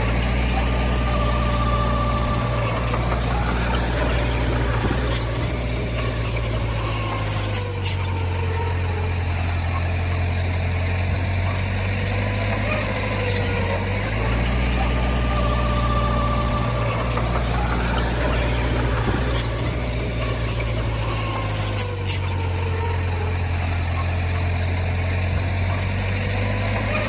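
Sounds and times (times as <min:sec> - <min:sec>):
heavy diesel machinery engine: 0:00.0 - 0:27.0
wavering machine whine: 0:00.0 - 0:27.0.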